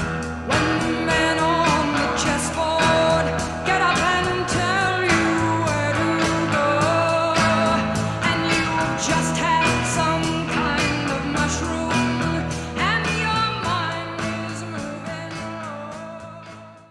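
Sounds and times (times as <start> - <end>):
person singing: 0.0 - 16.9
song with beat bass and guitar: 0.0 - 16.9.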